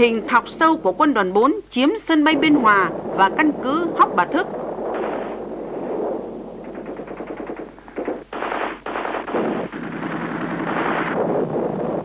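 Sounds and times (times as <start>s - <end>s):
machine-gun fire: 2.4s - 12.0s.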